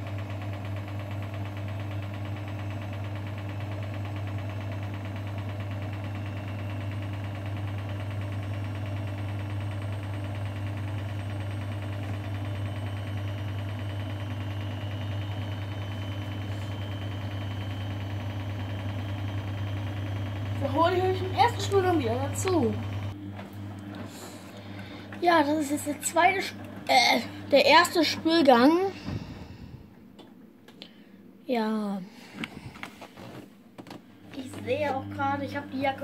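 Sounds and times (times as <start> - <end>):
washing machine humming: 0.0 - 36.0.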